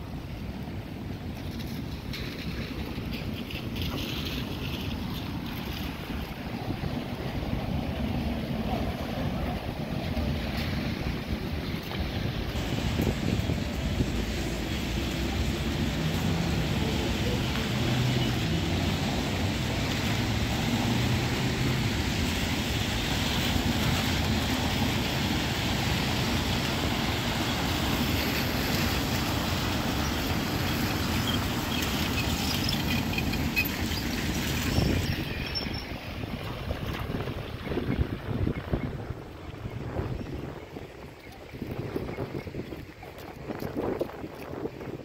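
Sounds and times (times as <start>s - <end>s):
cars driving on wet road: 0.0s - 45.0s.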